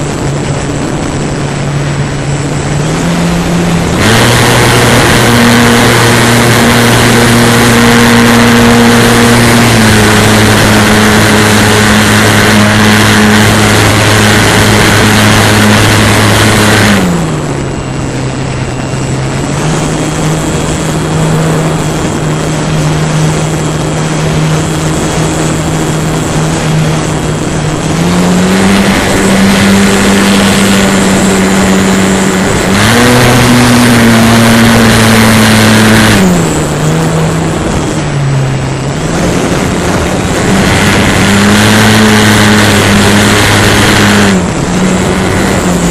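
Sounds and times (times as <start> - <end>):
model airplane motor buzzing: 0.0 - 45.9
wind rushing: 0.0 - 45.9.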